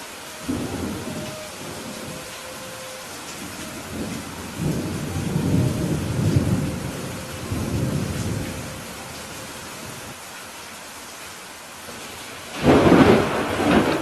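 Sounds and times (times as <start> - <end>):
thunder rumbling: 0.0 - 10.2, 12.5 - 14.0
steady rain falling: 0.0 - 14.0.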